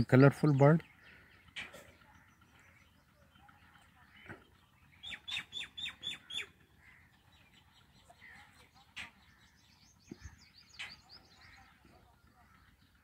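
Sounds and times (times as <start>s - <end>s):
bird chicks calling: 0.0s - 13.0s.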